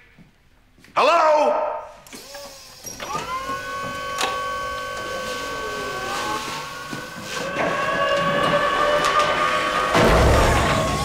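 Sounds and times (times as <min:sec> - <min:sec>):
forklift motor whining: 0:02.1 - 0:11.0.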